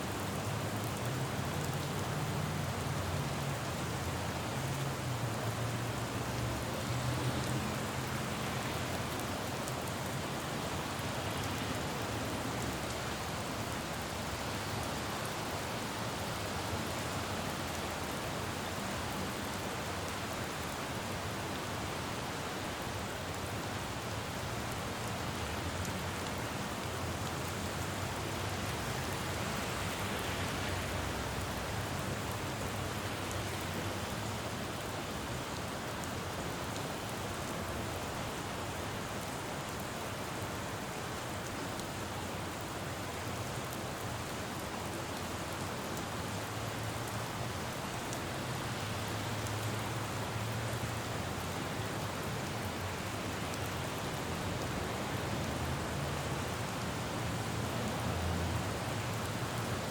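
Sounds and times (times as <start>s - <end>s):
rain on a road: 0.0s - 59.9s.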